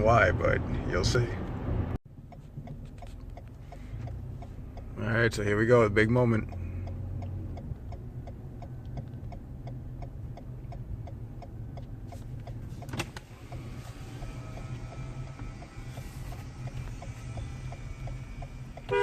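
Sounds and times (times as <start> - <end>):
car engine hum: 0.0 - 19.0
turn signal ticking: 1.0 - 19.0.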